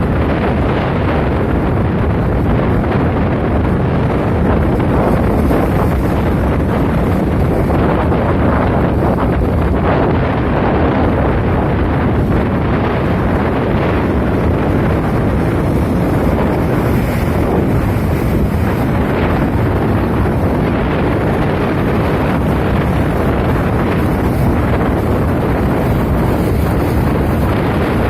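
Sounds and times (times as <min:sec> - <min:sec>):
sea surf: 0:00.0 - 0:28.0
strong wind on microphone: 0:00.0 - 0:28.0.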